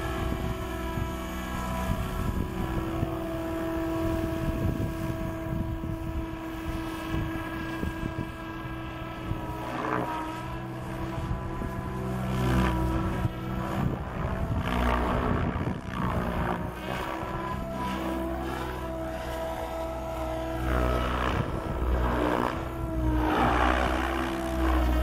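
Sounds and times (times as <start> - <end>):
rc helicopter motor whine: 0.0 - 25.0
wind rumble on microphone: 0.0 - 25.0.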